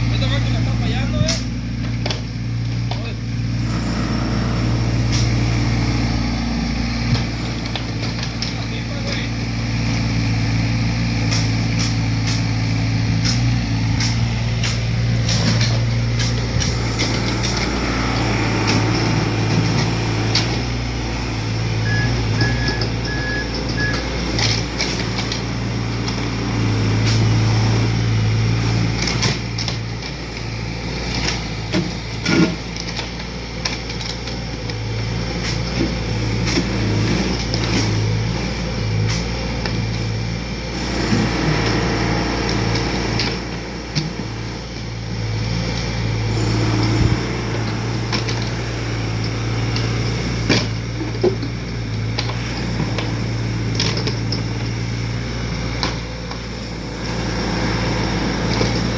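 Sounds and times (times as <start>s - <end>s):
heavy diesel machine running: 0.0s - 58.9s.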